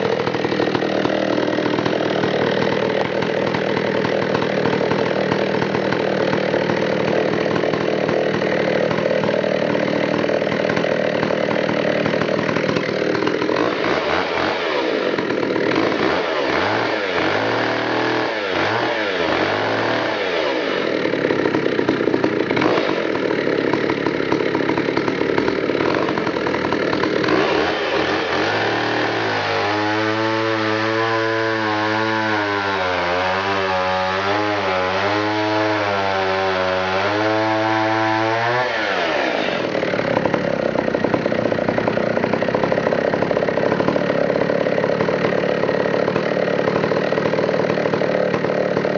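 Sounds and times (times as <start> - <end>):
chainsaw cutting through log: 0.0 - 48.9
chainsaw revving: 0.0 - 48.9.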